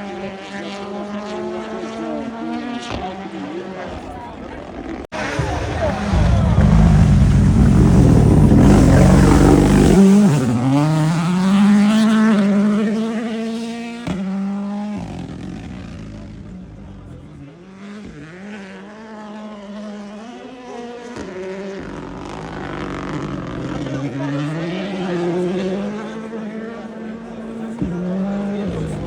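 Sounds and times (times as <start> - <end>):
rally car engine at full throttle: 0.0 - 29.0.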